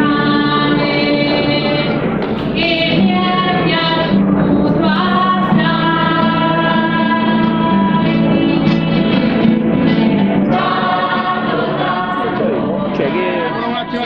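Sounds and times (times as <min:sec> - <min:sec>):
high voices singing held notes: 0:00.0 - 0:14.0.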